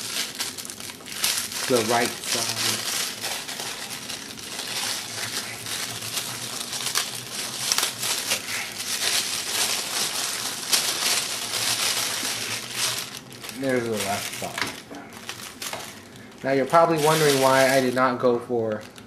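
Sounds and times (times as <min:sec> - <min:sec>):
packaging crinkling: 0:00.0 - 0:19.0.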